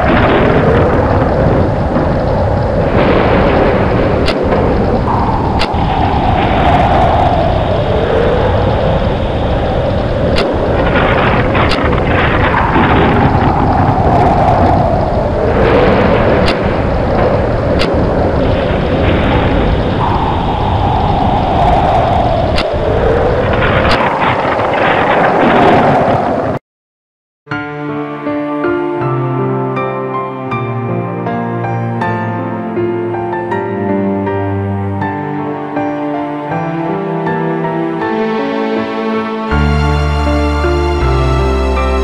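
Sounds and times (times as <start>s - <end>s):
rain: 0.0s - 26.6s, 30.9s - 42.0s
steady wind: 0.0s - 26.6s, 28.3s - 42.0s
wind gust whining: 0.0s - 26.6s, 30.6s - 42.0s.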